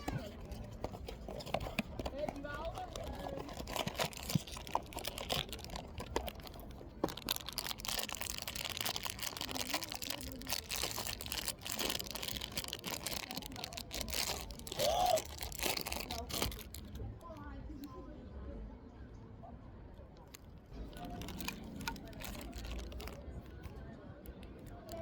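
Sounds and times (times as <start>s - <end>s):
packaging crinkling and tearing: 0.0s - 17.2s, 20.3s - 23.8s.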